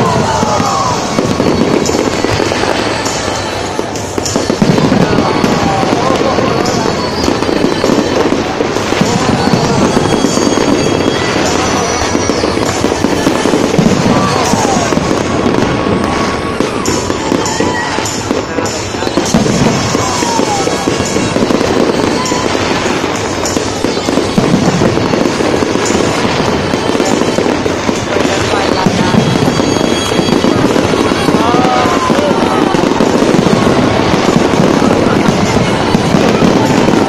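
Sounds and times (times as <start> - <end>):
crowd voices: 0.0 - 37.0
fireworks crackling and popping: 0.0 - 37.0
music: 0.0 - 37.0.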